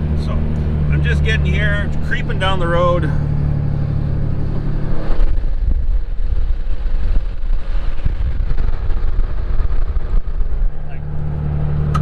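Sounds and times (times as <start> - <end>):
road rumble: 0.0 - 12.0
truck engine running: 0.0 - 12.0.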